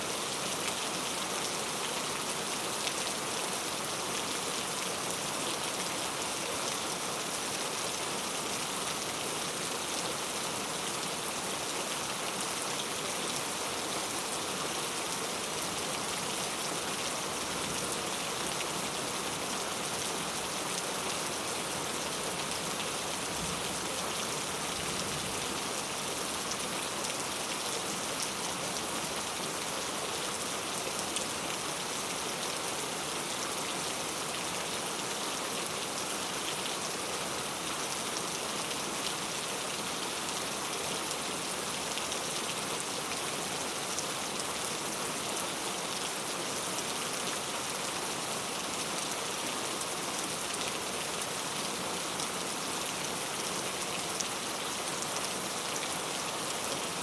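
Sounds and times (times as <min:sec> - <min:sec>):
heavy rain on street: 0:00.0 - 0:57.0.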